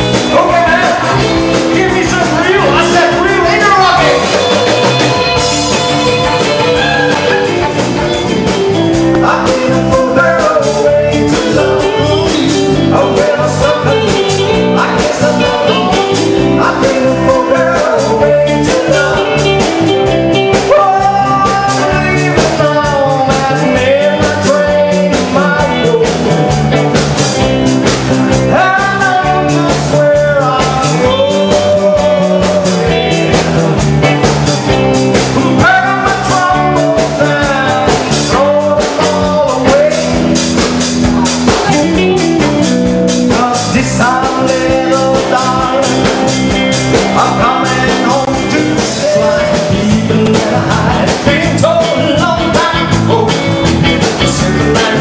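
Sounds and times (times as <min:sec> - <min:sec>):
man singing: 0:00.0 - 0:33.9, 0:35.0 - 0:55.0
drum beat: 0:00.0 - 0:55.0
electric guitar: 0:00.0 - 0:55.0.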